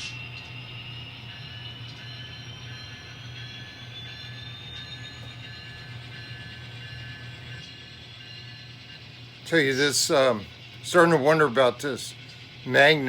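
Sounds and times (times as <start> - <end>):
faint high whine: 0.0 - 13.0
model locomotive engine hum: 0.0 - 13.0.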